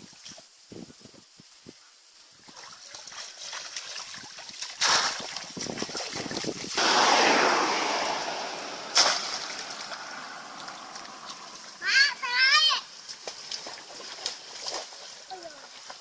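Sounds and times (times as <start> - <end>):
rush of water: 2.3 - 16.0
water splashing: 2.4 - 16.0.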